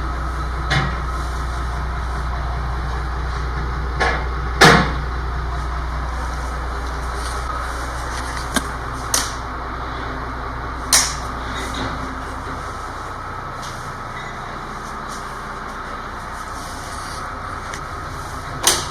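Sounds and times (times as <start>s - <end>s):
truck engine drone: 0.0s - 18.9s.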